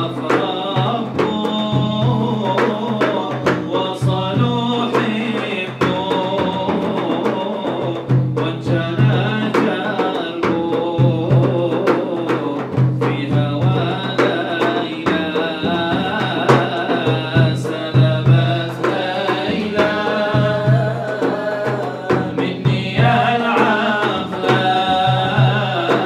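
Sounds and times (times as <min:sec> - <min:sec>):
drum beating low thumps: 0:00.0 - 0:26.0
man singing into a microphone: 0:00.0 - 0:26.0.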